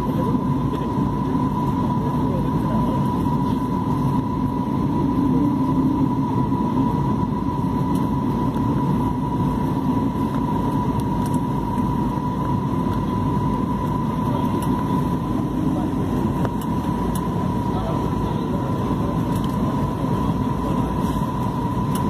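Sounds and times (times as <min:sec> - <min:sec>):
airliner cabin engine rumble: 0:00.0 - 0:22.0
thin steady whine: 0:00.0 - 0:22.0.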